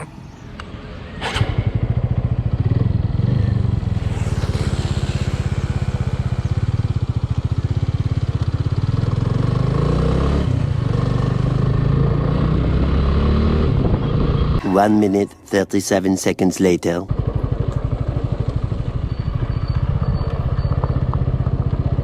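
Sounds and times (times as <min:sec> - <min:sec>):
motorcycle engine running: 0:01.2 - 0:14.6, 0:17.1 - 0:22.0.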